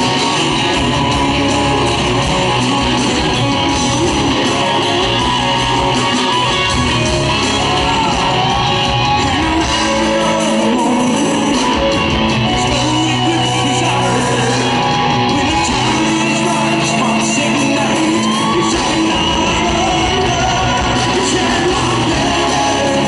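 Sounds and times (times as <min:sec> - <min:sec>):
electric guitars: 0:00.0 - 0:23.0
live rock band playing: 0:00.0 - 0:23.0
person singing: 0:00.0 - 0:23.0.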